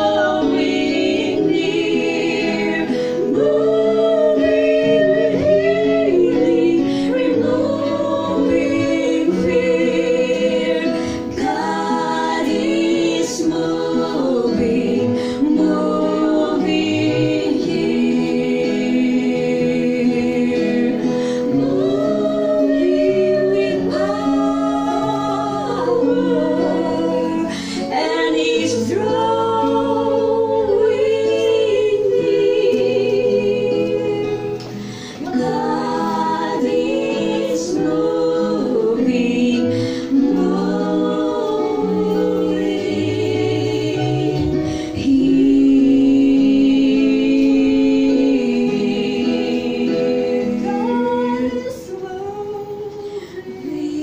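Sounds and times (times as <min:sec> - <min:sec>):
electric keyboard chords: 0:00.0 - 0:51.5
women singing worship song: 0:00.0 - 0:54.0.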